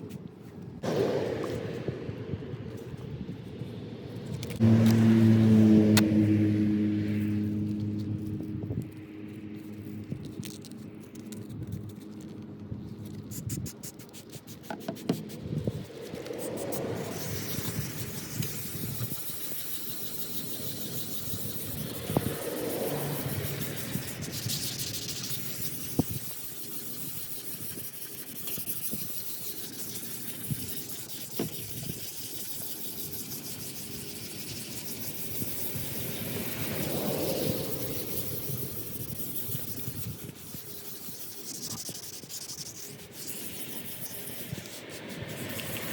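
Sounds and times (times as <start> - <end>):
sandpaper scraping plastic: 0.0 - 6.2, 7.1 - 45.9.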